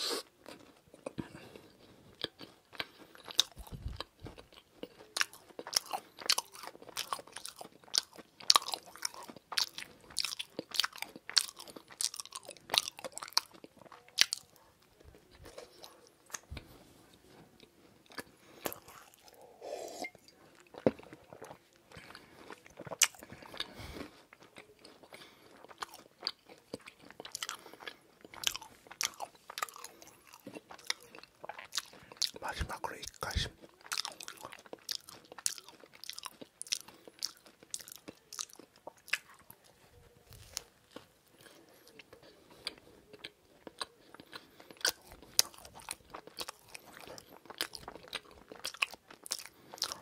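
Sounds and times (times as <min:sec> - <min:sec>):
chewing pastry: 0:00.0 - 0:50.0.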